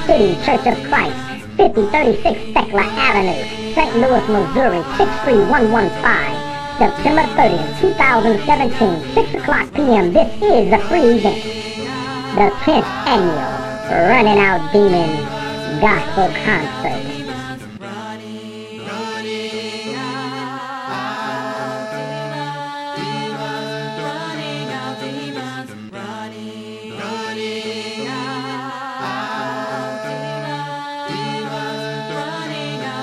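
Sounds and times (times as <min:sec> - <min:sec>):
voices singing in harmony: 0:00.0 - 0:33.0.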